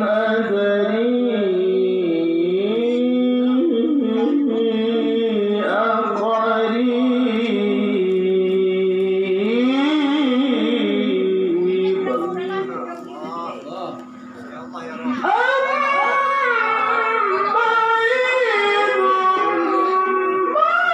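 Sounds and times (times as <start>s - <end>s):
man chanting melismatic recitation: 0.0s - 20.9s.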